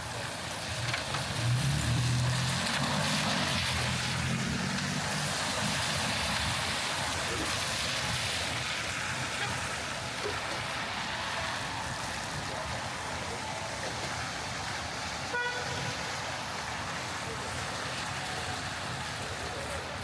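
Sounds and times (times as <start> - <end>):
rain hissing on street: 0.0 - 20.0
vehicle engine humming: 0.0 - 20.0.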